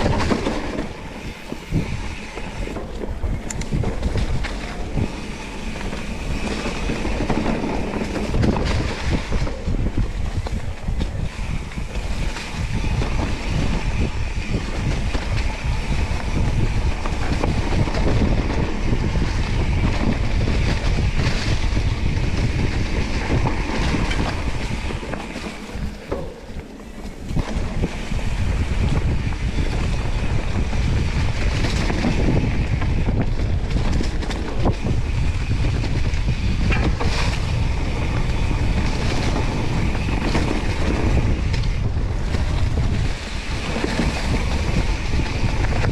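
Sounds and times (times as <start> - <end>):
bike rattling over rough trail: 0.0 - 45.9
wind buffeting microphone: 0.0 - 45.9.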